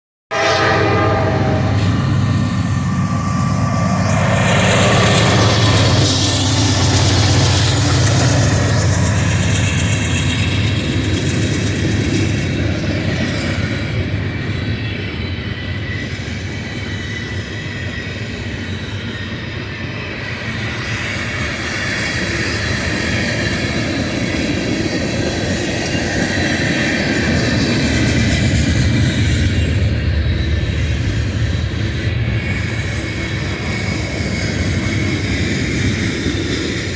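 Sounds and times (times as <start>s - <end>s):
train wheels rumbling on rail: 0.3s - 36.9s
faint high wheel squeal: 0.4s - 36.9s.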